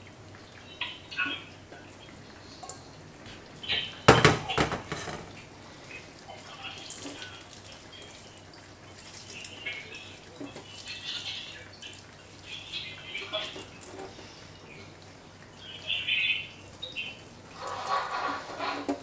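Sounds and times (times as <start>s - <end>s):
water dripping into metal sink: 0.0s - 18.2s.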